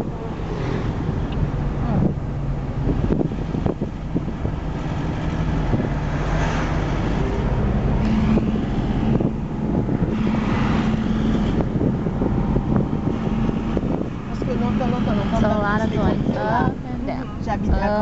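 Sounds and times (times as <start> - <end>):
car engine hum: 0.0 - 18.0
road noise: 0.0 - 18.0.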